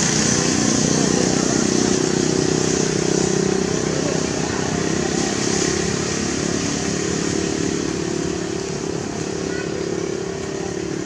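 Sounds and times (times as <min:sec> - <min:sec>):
continuous hiss: 0:00.0 - 0:11.0
small engine droning: 0:00.0 - 0:11.0.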